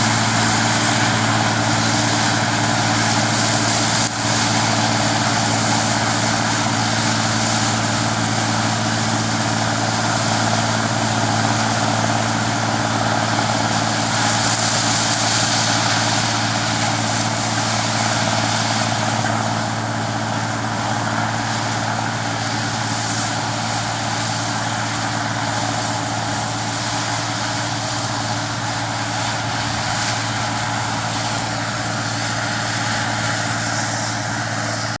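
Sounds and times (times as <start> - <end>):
combine harvester running: 0.0 - 35.0.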